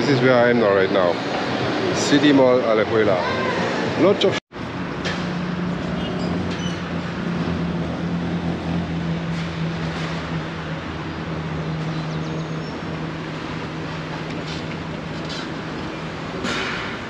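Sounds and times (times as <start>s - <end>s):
outdoor traffic: 0.0s - 17.0s.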